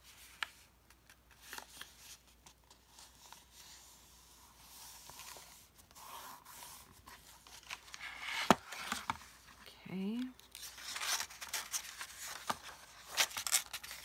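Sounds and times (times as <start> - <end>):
book pages rustling: 0.0 - 14.0.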